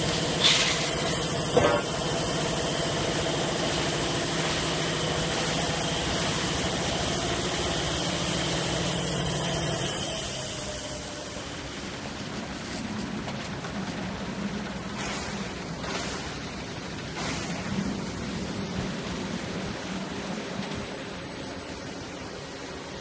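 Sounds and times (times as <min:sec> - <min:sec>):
machine mechanical hum: 0:00.0 - 0:23.0.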